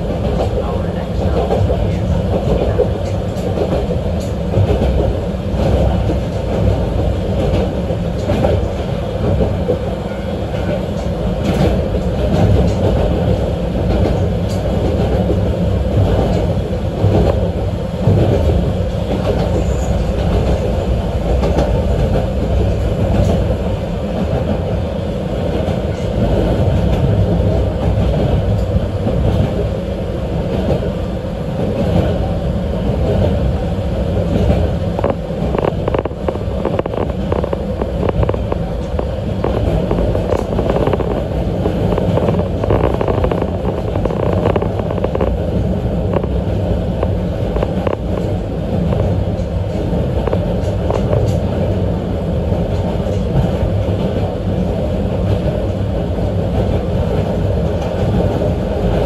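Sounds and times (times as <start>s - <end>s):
rail joint clicks: 0.0s - 59.0s
train wheels rumbling on rails: 0.0s - 59.0s.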